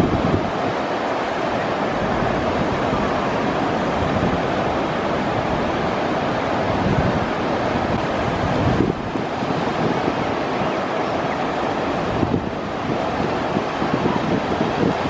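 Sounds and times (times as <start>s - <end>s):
ocean surf breaking on beach: 0.0s - 15.0s
wind buffeting microphone: 0.0s - 15.0s.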